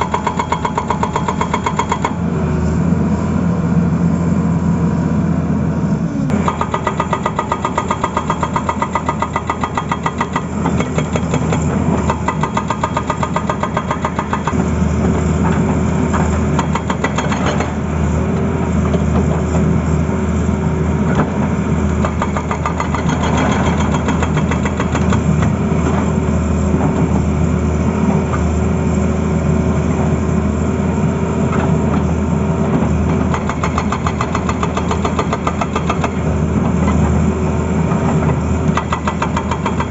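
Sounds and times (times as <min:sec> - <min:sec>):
excavator diesel engine rumbling: 0:00.0 - 0:39.9.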